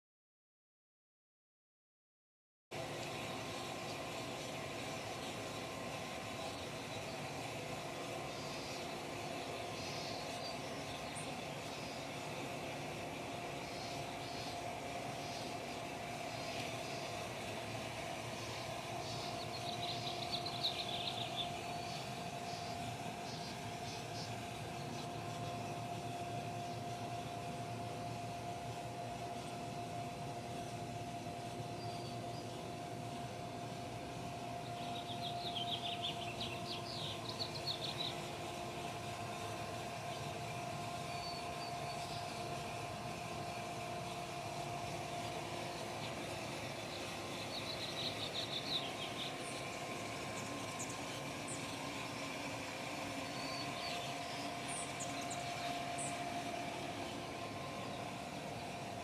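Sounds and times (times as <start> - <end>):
birds chirping trills: 2.8 - 59.0
steady hum: 2.8 - 59.0.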